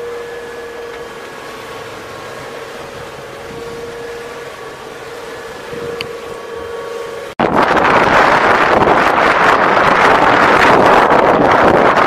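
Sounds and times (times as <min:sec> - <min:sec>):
boat motor humming: 0:00.0 - 0:12.0
rush of water against hull: 0:00.0 - 0:12.0.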